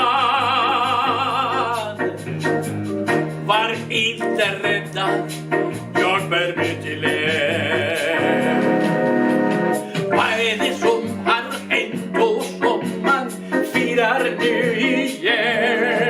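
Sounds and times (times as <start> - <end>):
person singing with vibrato: 0.0 - 2.2, 3.4 - 16.0
keyboard chords: 0.0 - 16.0.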